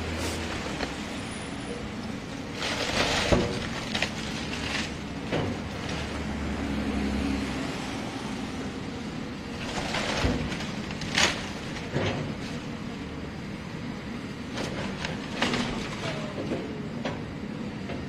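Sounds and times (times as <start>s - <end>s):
heavy machinery engine running: 0.0s - 18.0s.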